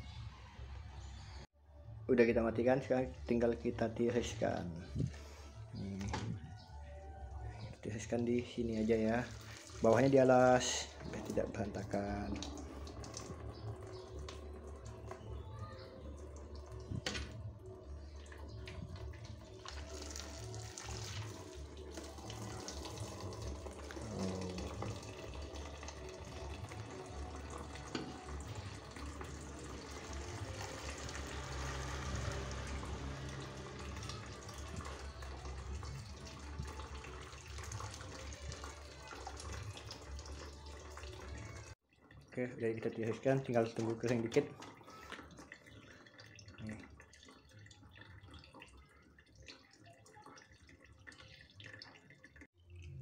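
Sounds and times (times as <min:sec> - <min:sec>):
water trickling and dripping: 0:02.8 - 0:53.0.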